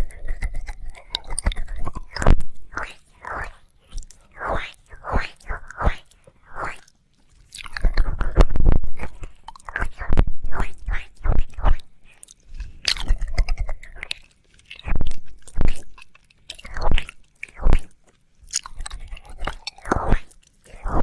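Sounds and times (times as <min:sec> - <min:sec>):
wet mouth licking sounds: 0:00.0 - 0:21.0.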